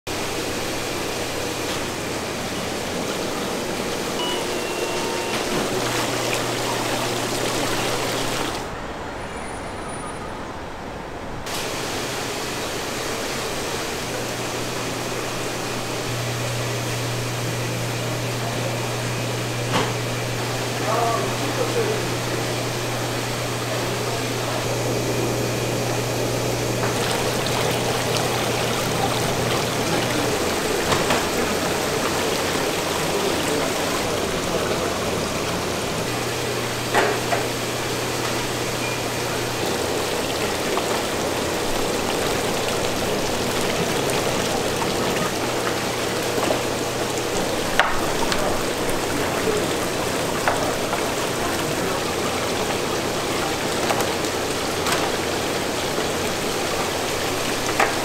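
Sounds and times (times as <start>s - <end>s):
water running and splashing: 0.1s - 8.7s, 11.5s - 58.0s
low machine hum: 0.1s - 8.8s, 11.5s - 58.0s.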